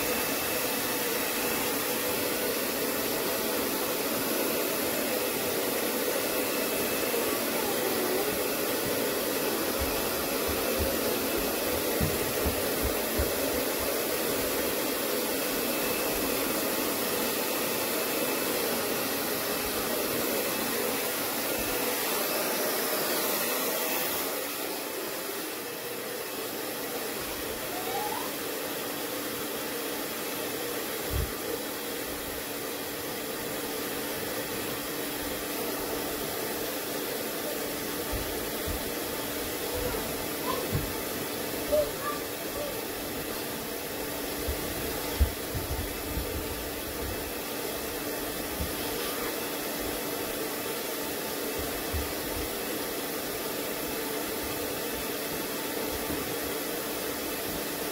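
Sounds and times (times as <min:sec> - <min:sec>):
hair dryer blowing: 0:00.0 - 0:57.9.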